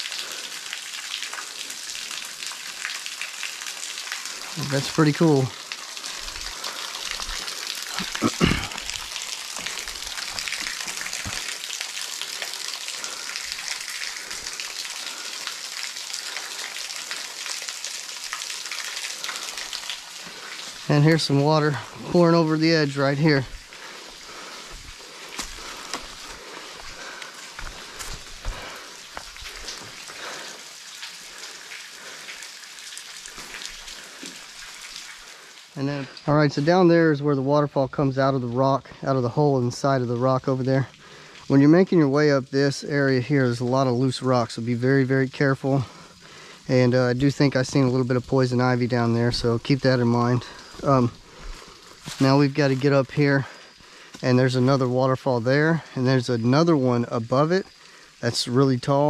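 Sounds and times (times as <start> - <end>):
water trickling onto stones: 0.0 - 59.0.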